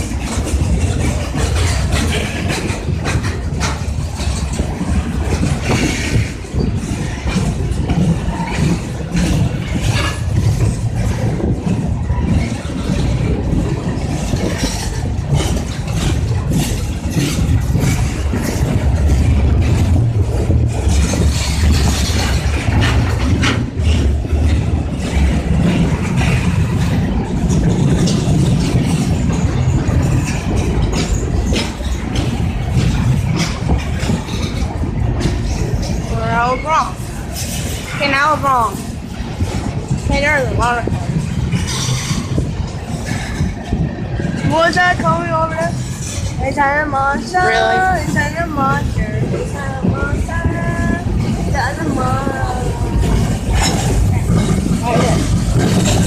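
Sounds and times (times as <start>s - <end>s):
railcars rumbling: 0.0s - 56.0s
wheels clacking over rails: 0.0s - 56.0s.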